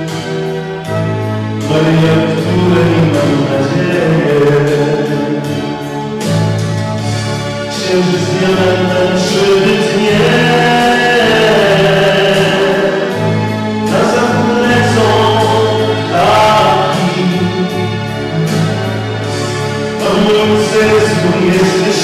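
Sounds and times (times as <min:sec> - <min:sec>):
instrumental accompaniment: 0:00.0 - 0:22.0
man singing into a microphone: 0:01.6 - 0:05.8, 0:07.7 - 0:19.2, 0:19.9 - 0:22.0.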